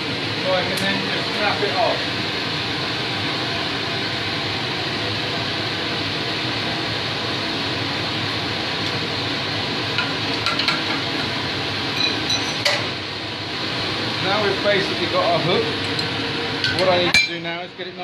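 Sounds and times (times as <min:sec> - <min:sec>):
forge fan rushing: 0:00.0 - 0:12.0, 0:12.7 - 0:18.0.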